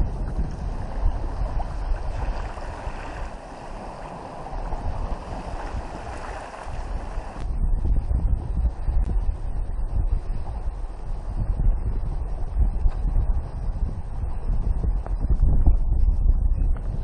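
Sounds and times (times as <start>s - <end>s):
water rushing against hull: 0.0s - 15.8s
wind buffeting microphone: 0.0s - 17.0s.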